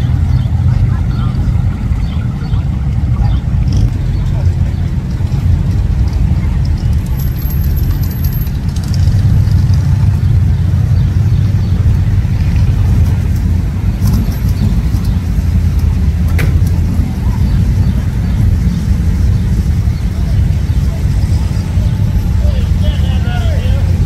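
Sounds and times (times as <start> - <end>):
car engines idling: 0.0 - 24.0.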